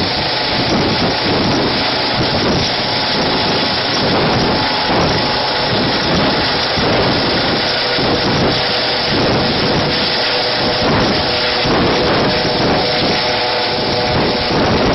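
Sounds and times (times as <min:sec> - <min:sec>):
helicopter rotor and turbine noise: 0:00.0 - 0:14.9.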